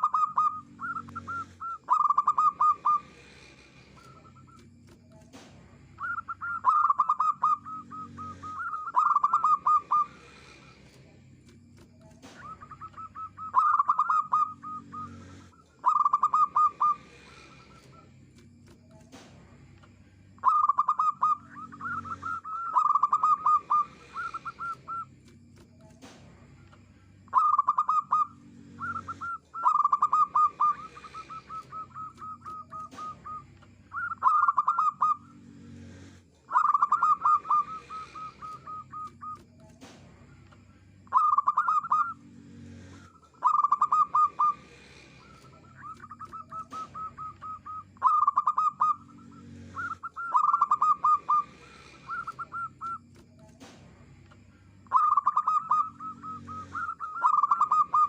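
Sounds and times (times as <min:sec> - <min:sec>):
dove staccato cooing: 0:00.0 - 0:58.0.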